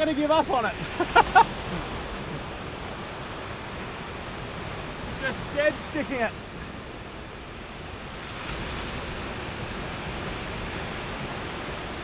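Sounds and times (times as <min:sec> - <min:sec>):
waves breaking on beach: 0:00.0 - 0:12.0
wind on microphone: 0:00.0 - 0:12.0.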